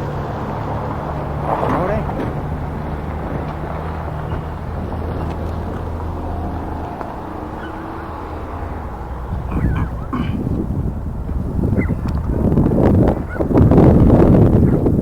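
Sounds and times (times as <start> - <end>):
engine humming: 0.0 - 15.0
outdoor background noise: 0.0 - 15.0.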